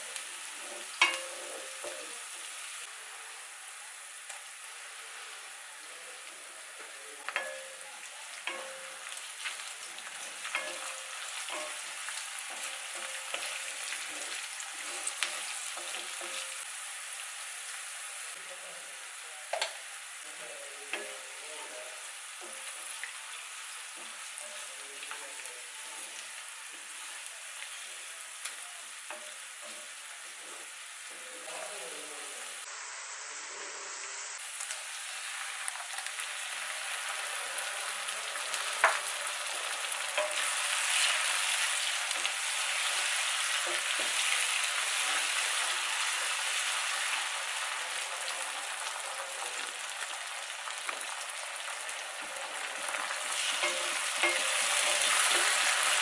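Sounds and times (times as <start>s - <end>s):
chicken sizzling in oil: 0.0s - 56.0s.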